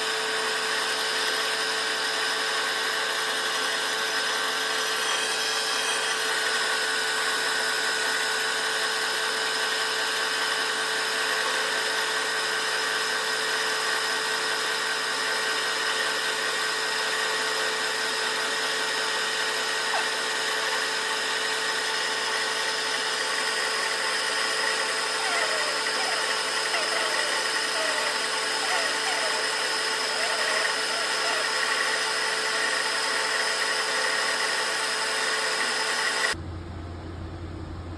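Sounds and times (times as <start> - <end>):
power machine tool whining: 0.0 - 36.4.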